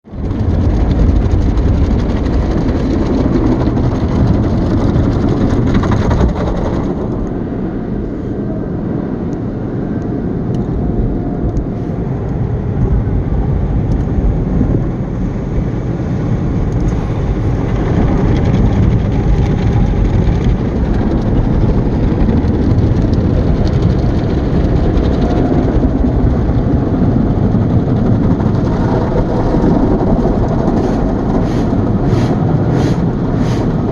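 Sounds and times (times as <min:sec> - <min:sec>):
automatic car wash machinery and water: 0:00.1 - 0:33.9.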